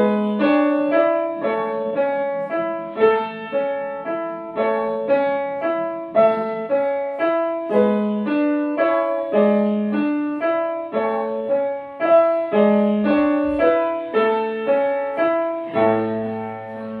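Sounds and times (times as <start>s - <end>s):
piano playing broken chords: 0.0s - 17.0s.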